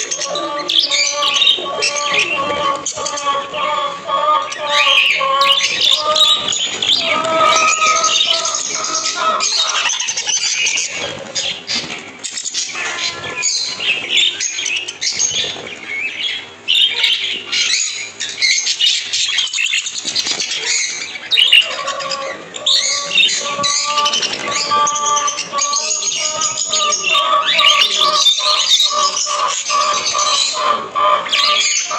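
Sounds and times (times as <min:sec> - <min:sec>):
budgerigars chattering and squawking: 0:00.0 - 0:31.9.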